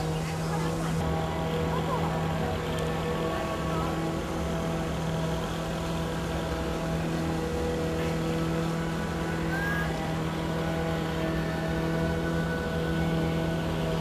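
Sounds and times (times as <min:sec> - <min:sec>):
low road rumble: 0:00.0 - 0:14.0
vehicle engine hum: 0:00.0 - 0:14.0.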